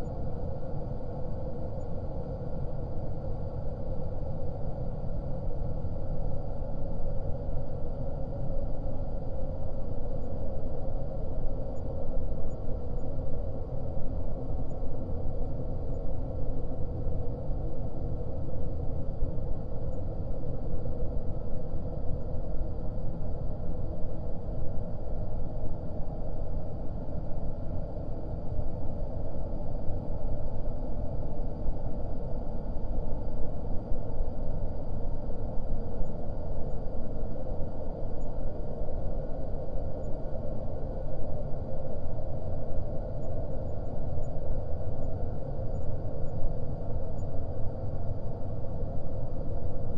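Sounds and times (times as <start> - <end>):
low ambient drone: 0.0 - 49.9.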